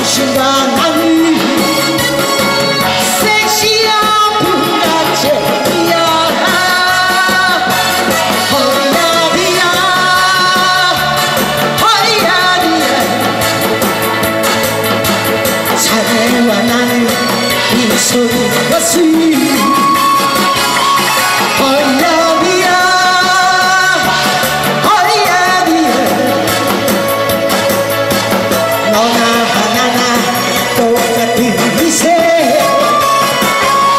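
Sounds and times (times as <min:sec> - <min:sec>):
woman singing into microphone: 0:00.0 - 0:14.2, 0:15.4 - 0:33.9
recorded backing track: 0:00.0 - 0:33.9.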